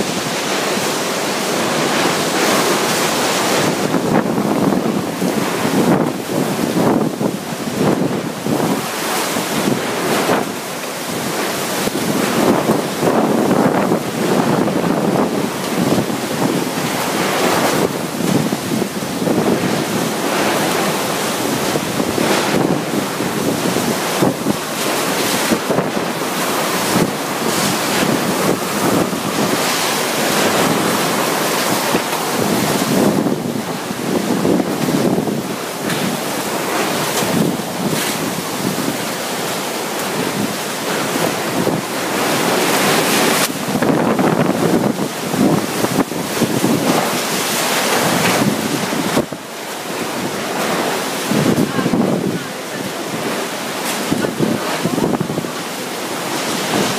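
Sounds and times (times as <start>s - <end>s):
driving rain: 0.0s - 56.9s
strong wind blowing: 0.0s - 56.9s
wind buffeting microphone: 0.0s - 56.9s.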